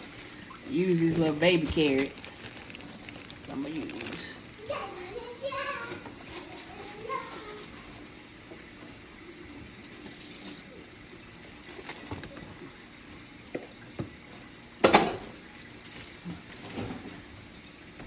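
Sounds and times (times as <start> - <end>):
kitchen tap running: 0.0 - 18.0.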